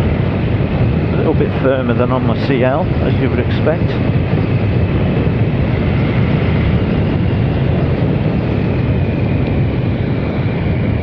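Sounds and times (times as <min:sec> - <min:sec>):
motorcycle engine running: 0:00.0 - 0:11.0
wind rushing on microphone: 0:00.0 - 0:11.0.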